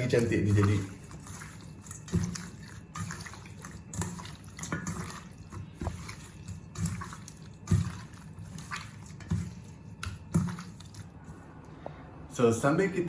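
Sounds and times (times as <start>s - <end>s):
wet squelches of kneading meat: 0.0s - 11.8s.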